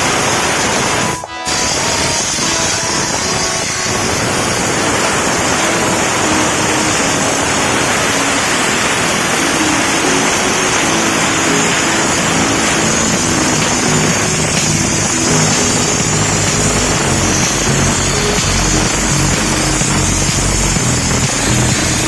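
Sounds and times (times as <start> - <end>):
steam-wash nozzle hissing: 0.0 - 22.0.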